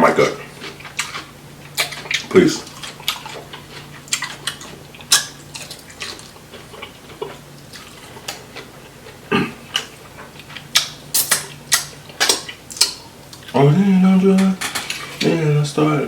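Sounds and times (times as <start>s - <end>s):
wet chewing and smacking: 0.2s - 13.6s.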